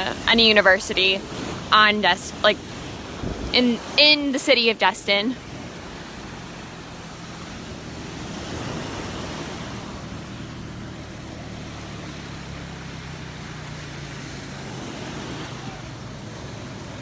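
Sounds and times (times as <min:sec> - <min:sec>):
traffic hum: 0:00.0 - 0:17.0
vehicle passing: 0:00.0 - 0:17.0.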